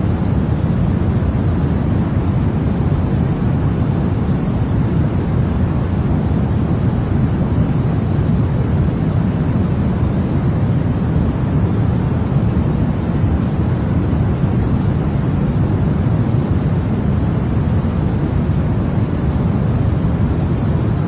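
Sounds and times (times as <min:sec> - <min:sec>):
deep rumbly noise hiss: 0:00.0 - 0:21.0.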